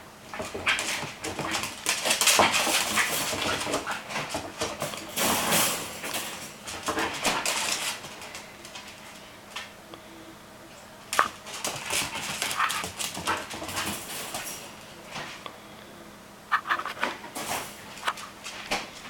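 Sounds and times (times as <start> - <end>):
puppy claws scrabbling on floor: 0.3 - 9.7, 11.1 - 15.4, 16.5 - 19.0.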